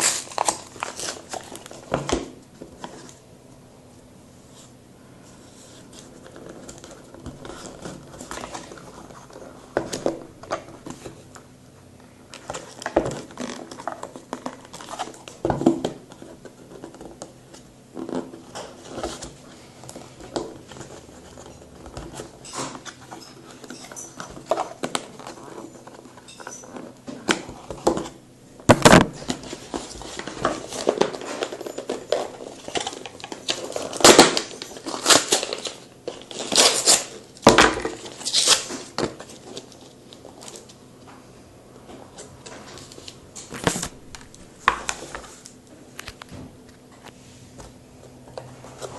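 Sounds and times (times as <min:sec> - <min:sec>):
cardboard and plastic rustling: 0:00.0 - 0:03.2, 0:04.5 - 0:11.4, 0:12.2 - 0:40.8, 0:41.8 - 0:48.9.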